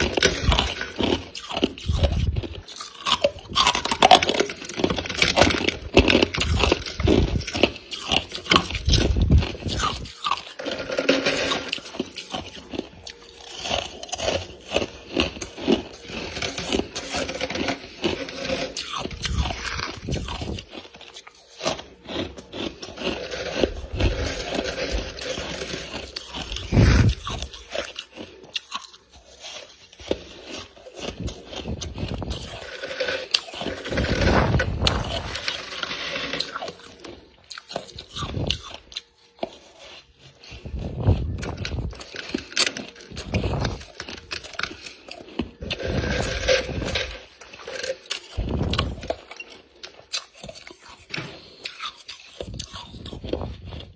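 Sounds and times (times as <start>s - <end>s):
frost crunching being chewed: 0.0s - 53.9s.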